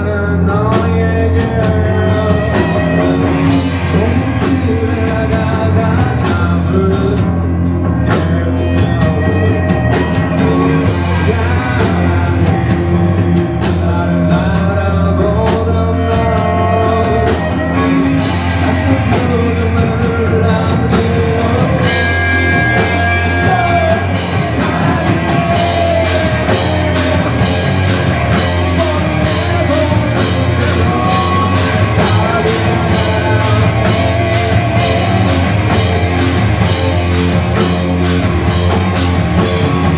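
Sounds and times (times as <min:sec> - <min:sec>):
man singing: 0:00.0 - 0:39.9
rock band playing live: 0:00.0 - 0:39.9.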